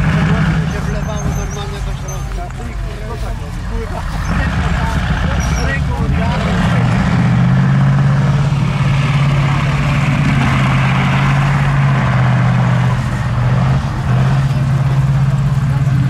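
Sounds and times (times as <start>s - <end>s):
tracked vehicle engine running: 0.0s - 16.0s.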